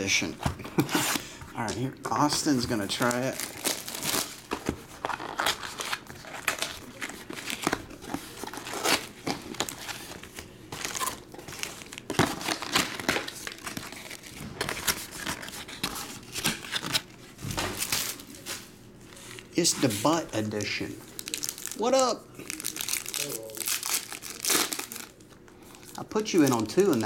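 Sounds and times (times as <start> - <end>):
foil packs rustling: 0.2 - 27.0
plastic wrap crinkling and tearing: 0.8 - 19.5, 20.5 - 27.0.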